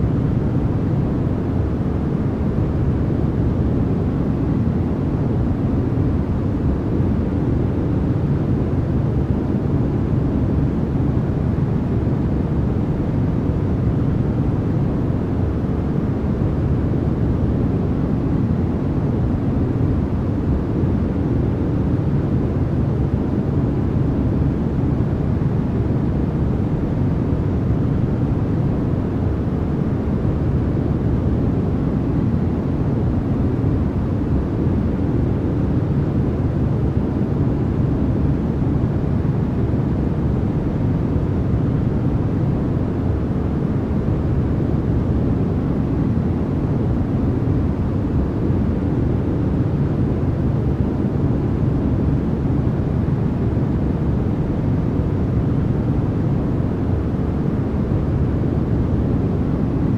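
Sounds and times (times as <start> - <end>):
deep rumbling white noise: 0.0 - 59.9.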